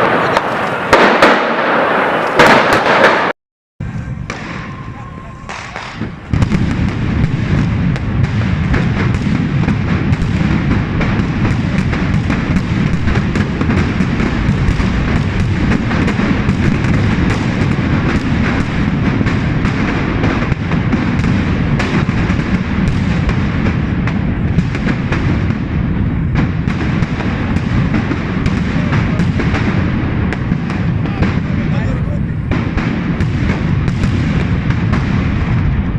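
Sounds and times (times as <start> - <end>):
firecrackers banging: 0.0 - 35.9
low rumble of blasts: 0.0 - 35.9.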